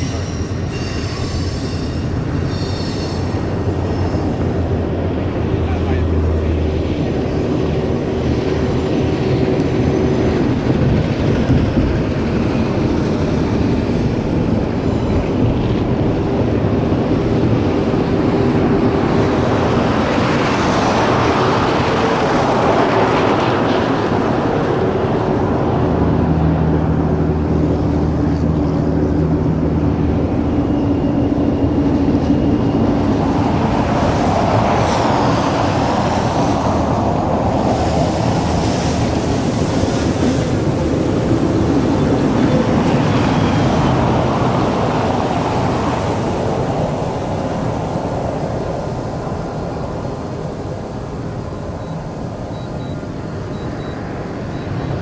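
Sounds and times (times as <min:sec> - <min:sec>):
train rumble: 0:00.0 - 0:55.0
low engine hum: 0:03.4 - 0:55.0.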